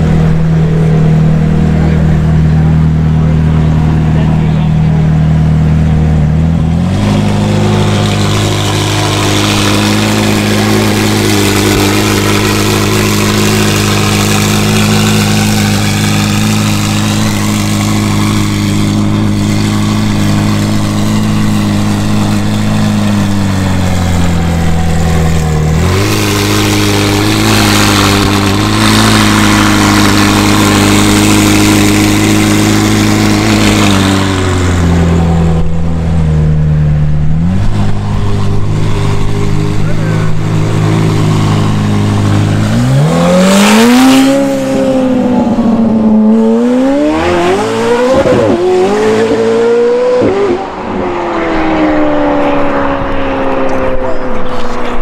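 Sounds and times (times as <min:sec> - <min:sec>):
car engine at low revs: 0:00.0 - 0:55.0.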